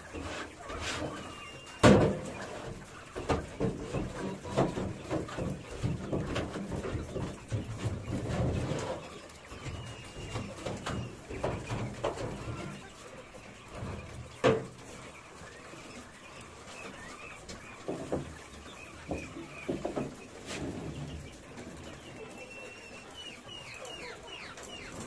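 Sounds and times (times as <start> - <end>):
quail chirping: 0.0 - 25.0
trays scraping: 0.0 - 25.0.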